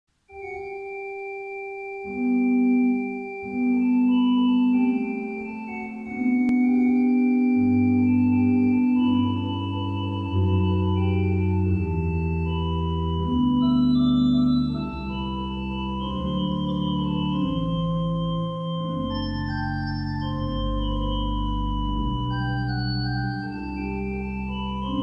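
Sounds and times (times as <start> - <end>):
organ playing sustained chords: 0.3 - 25.0.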